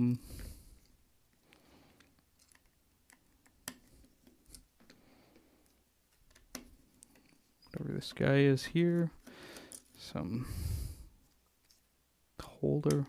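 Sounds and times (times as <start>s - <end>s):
light clicks of plastic parts: 0.4s - 10.1s, 11.2s - 13.0s.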